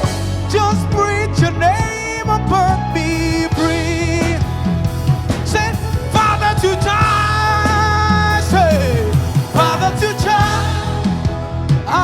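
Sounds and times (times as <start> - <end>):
gospel band music: 0.0 - 12.0.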